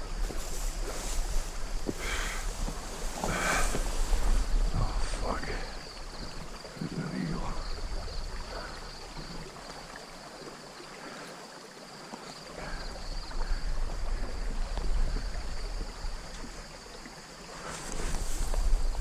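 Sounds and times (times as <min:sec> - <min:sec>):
wind rumbling on microphone: 0:00.0 - 0:10.0, 0:12.6 - 0:19.0
stream water running: 0:00.0 - 0:19.0.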